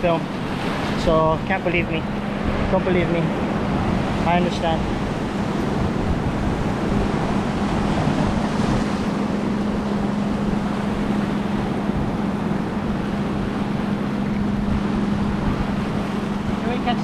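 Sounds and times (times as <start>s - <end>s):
steady low hum: 0.0s - 17.0s
wind buffeting microphone: 0.0s - 17.0s.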